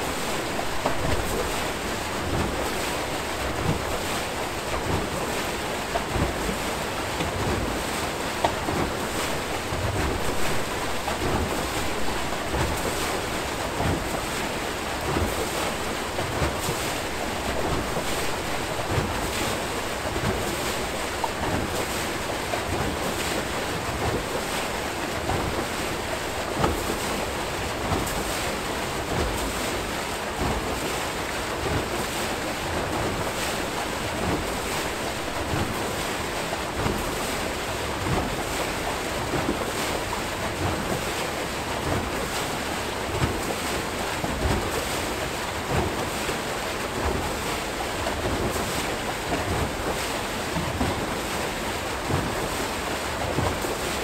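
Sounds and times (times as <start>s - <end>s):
water churning and splashing: 0.0s - 54.0s.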